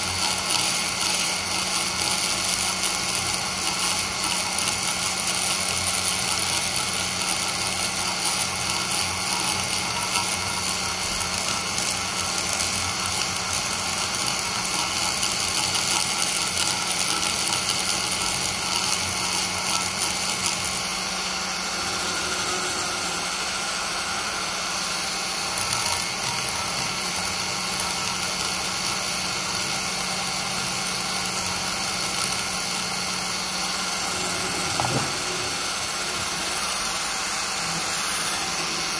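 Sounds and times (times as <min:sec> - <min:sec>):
die grinder grinding metal: 0:00.0 - 0:38.9.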